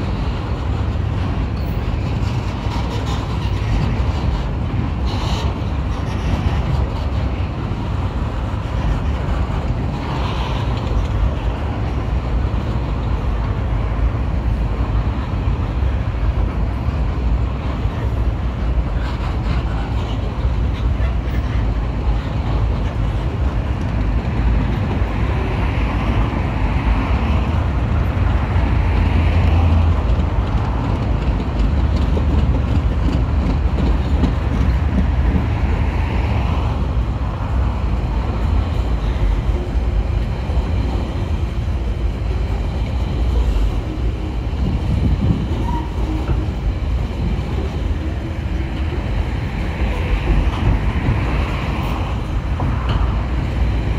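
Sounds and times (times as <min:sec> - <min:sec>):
freight train wagons rolling: 0:00.0 - 0:53.9
steel wheels rumbling on rails: 0:00.0 - 0:53.9.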